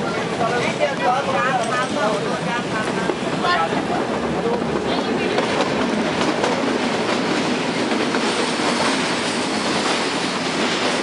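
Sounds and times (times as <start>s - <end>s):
train carriage rumbling: 0.0s - 11.0s
wheels clattering on rails: 0.1s - 11.0s.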